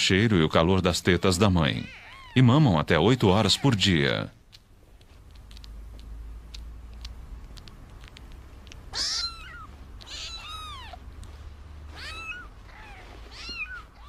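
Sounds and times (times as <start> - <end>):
kittens mewing: 1.6 - 11.2, 11.8 - 14.0.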